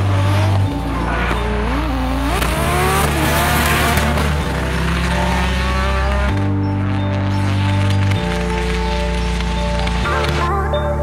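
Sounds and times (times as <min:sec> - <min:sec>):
background music with bass line: 0:00.0 - 0:11.0
car engines revving: 0:00.0 - 0:11.0.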